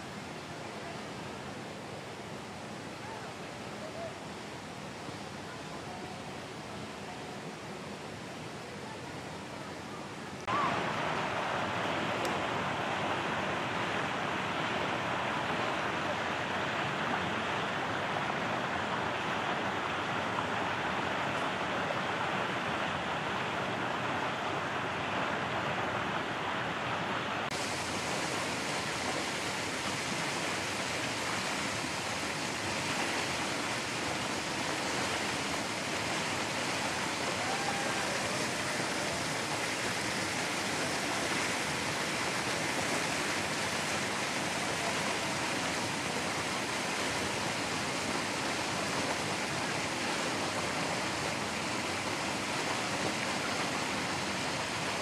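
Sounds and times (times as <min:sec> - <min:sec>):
steady rushing noise: 0:10.4 - 0:55.0.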